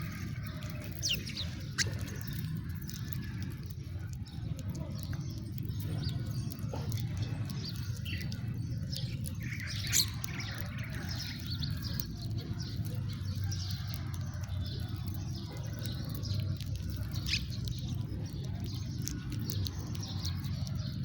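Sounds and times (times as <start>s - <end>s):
sparrows chirping: 0.0s - 21.0s
steady low rumble: 0.0s - 21.0s.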